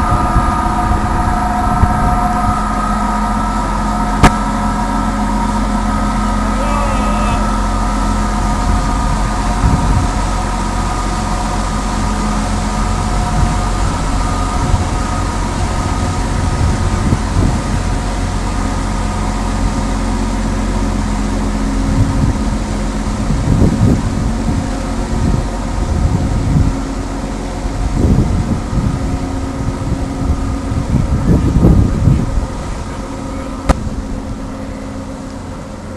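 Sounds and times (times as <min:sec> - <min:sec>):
wind gusts on microphone: 0:00.0 - 0:06.5, 0:07.2 - 0:20.1, 0:21.7 - 0:35.9
ship diesel engine humming: 0:00.0 - 0:35.9.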